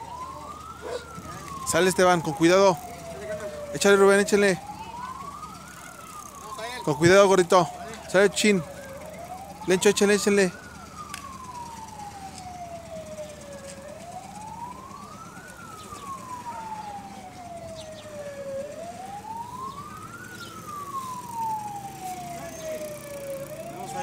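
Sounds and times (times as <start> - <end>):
vehicle siren wailing: 0.0 - 24.0.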